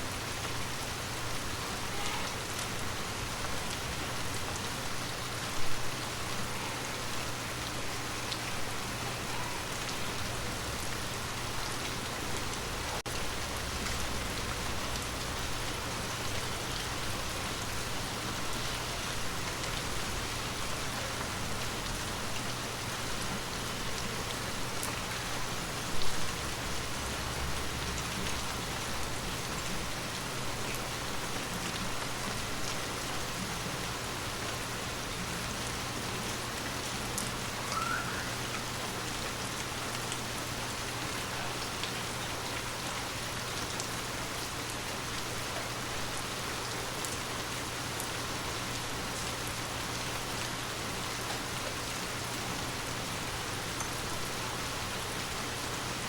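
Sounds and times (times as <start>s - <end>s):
hiss of falling water: 0.0s - 56.0s.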